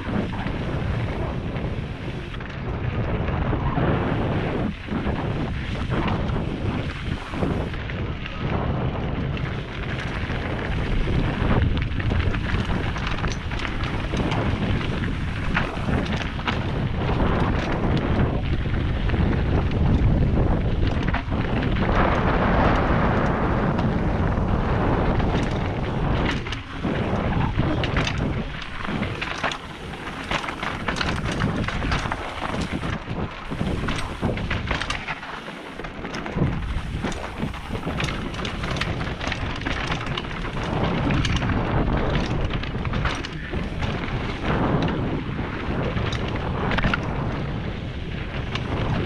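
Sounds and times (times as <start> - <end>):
bike clicks and rattles: 0.0 - 49.0
bike tyres rolling on dirt: 0.0 - 49.0
wind buffeting microphone: 0.0 - 49.0.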